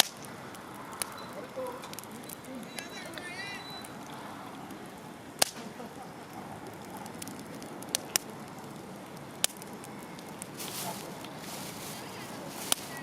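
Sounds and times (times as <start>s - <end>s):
campfire crackling: 0.0s - 13.0s
low hiss: 0.0s - 13.0s
sharp pops: 0.0s - 13.0s.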